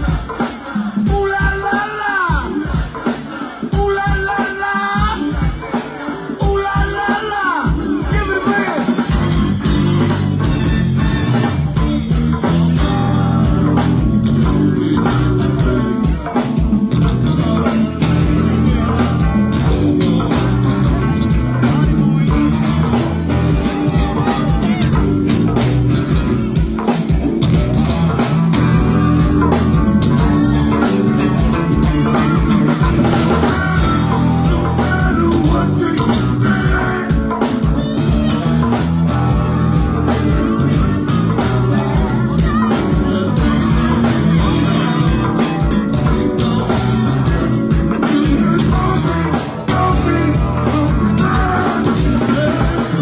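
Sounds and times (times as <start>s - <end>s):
bass line: 0.0s - 53.0s
congas: 0.0s - 53.0s
drum kit: 0.0s - 53.0s
live band playing groove: 0.0s - 53.0s.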